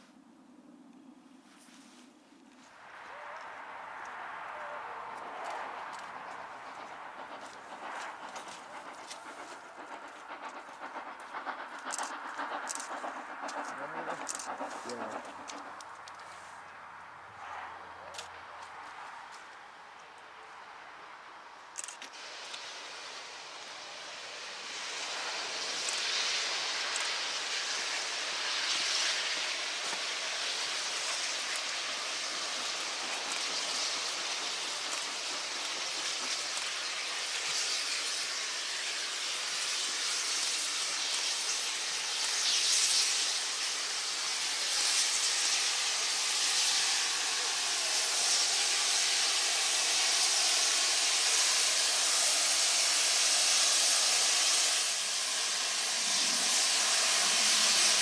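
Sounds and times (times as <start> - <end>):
steam locomotive hissing steam: 1.6 - 19.5, 21.4 - 58.0.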